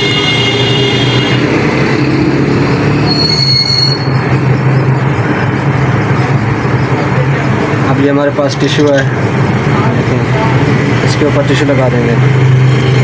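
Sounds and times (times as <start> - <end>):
high-pitched squeal: 0.0 - 13.0
loud road traffic: 0.0 - 13.0.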